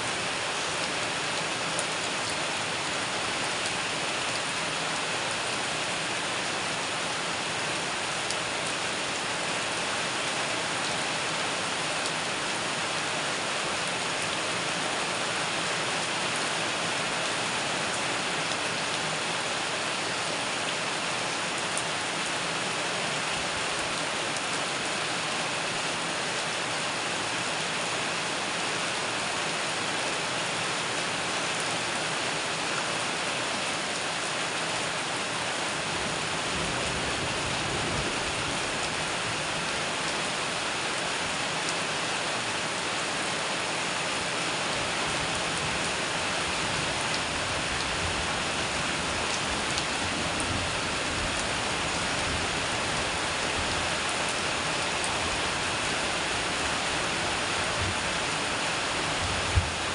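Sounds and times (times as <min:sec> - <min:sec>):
rain on metal roof: 0:00.0 - 0:59.9.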